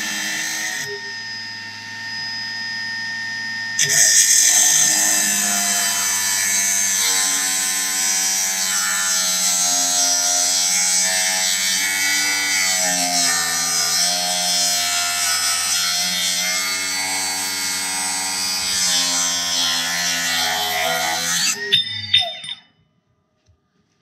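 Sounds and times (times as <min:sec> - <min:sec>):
saw blade grinding through steel: 0:00.0 - 0:01.2, 0:03.8 - 0:22.6.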